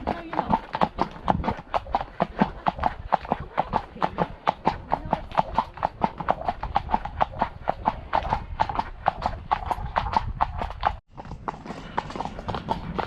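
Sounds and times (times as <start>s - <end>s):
horse hooves clip-clopping: 0.0s - 13.0s.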